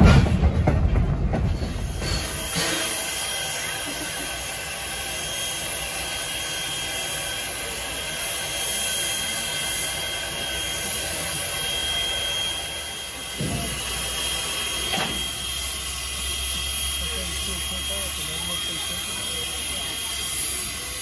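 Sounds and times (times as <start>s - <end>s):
steam hissing: 1.5s - 21.0s.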